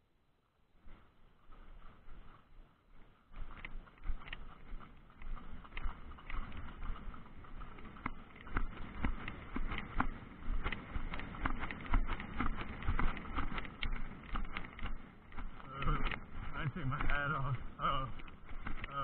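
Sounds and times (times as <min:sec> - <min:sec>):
horse hooves striking ground: 0:00.8 - 0:19.0.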